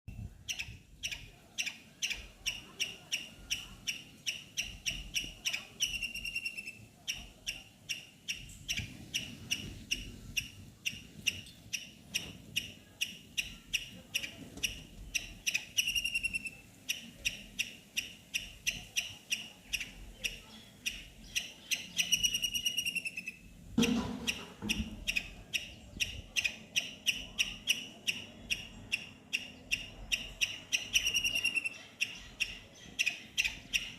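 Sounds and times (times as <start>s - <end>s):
squirrel squeaking chirp call: 0.1s - 33.9s.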